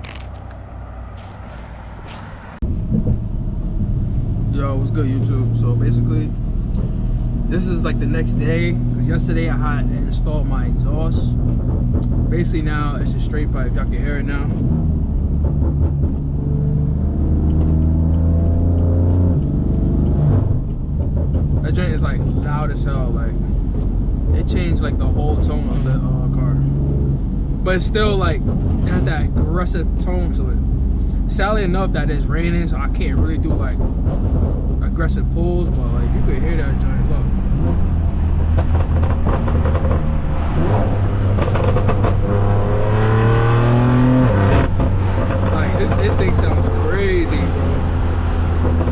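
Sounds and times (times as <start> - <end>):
loud car exhaust accelerating: 0.0 - 48.9.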